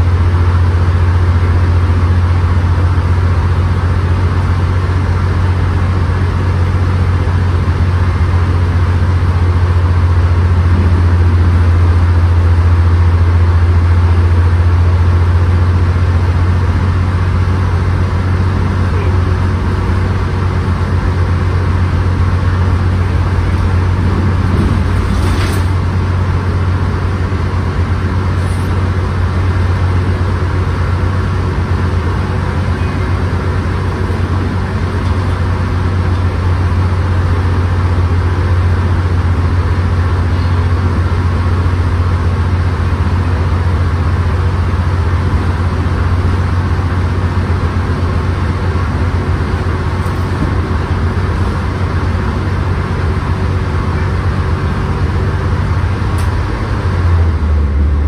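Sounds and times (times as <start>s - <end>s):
bus diesel engine droning: 0.0s - 58.0s
road noise: 0.0s - 58.0s.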